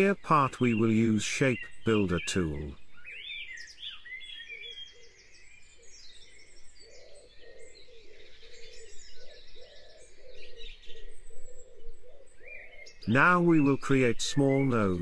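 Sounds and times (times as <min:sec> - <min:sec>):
birds chirping and trilling: 0:00.0 - 0:15.0
low repeating bird call: 0:00.0 - 0:15.0.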